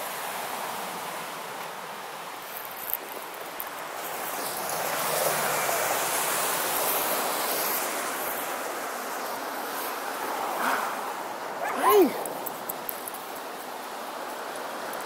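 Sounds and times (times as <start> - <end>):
steady rushing outdoor noise: 0.6 - 15.0.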